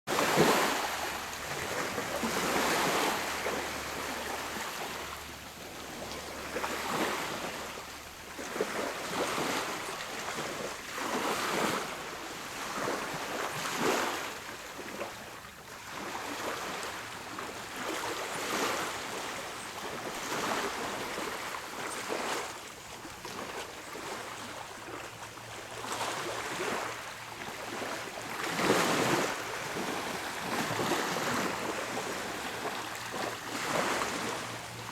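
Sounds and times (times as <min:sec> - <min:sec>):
small waves lapping ashore: 0:00.1 - 0:34.9.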